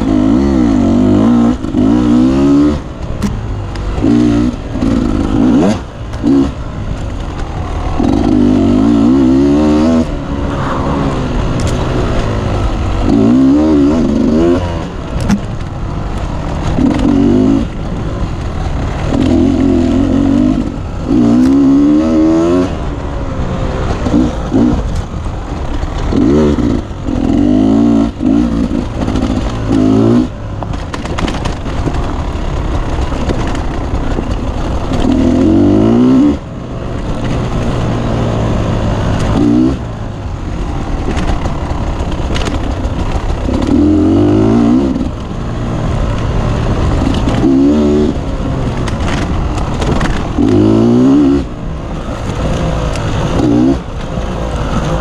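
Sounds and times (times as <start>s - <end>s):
motorcycle engine revving hard: 0.0s - 55.0s.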